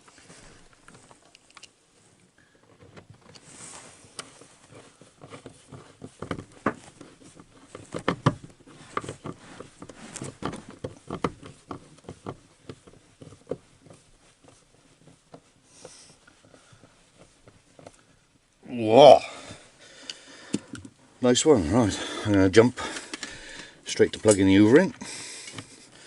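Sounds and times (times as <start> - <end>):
hand tools clicking and scraping: 2.7 - 26.0.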